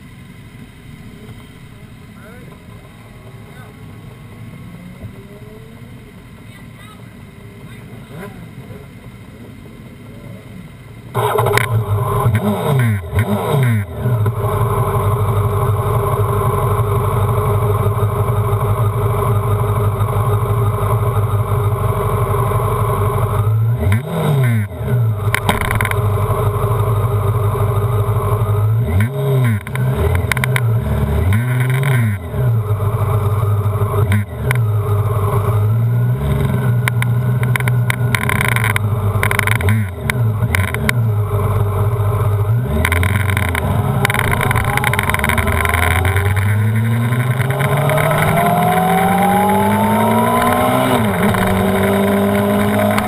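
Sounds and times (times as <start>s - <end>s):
motorcycle engine idling: 0.0s - 13.2s, 13.8s - 23.9s, 24.6s - 50.1s.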